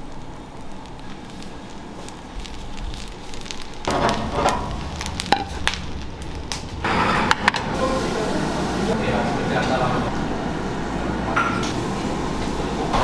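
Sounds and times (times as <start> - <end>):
rice sizzling in a hot pot: 0.0 - 13.0.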